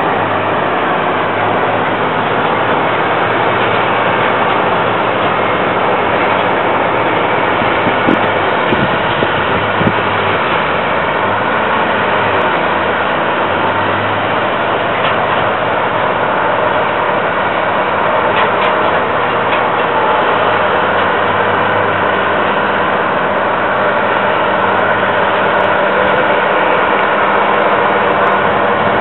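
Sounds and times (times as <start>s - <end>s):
heavy machinery engine drone: 0.0s - 29.0s.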